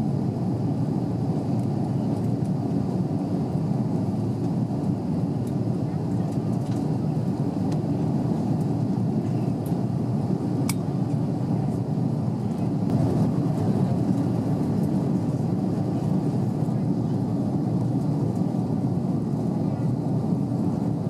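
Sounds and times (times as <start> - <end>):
airplane engines and airflow roar: 0.0 - 21.0.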